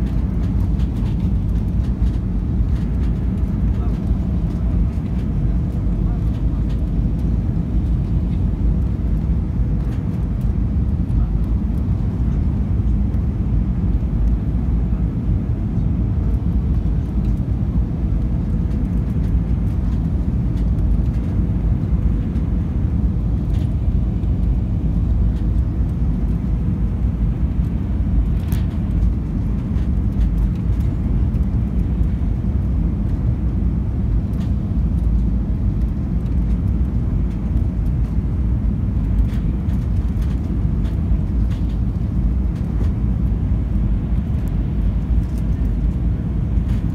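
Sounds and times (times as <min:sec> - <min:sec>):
jet airliner rumble: 0:00.0 - 0:46.9.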